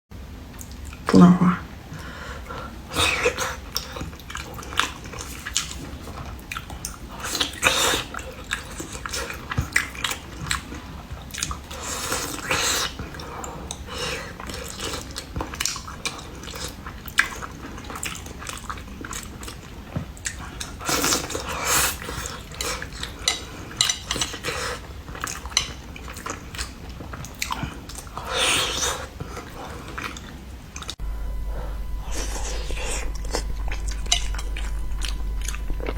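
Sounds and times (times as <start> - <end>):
person chewing seafood: 1.8 - 31.0, 31.6 - 35.9.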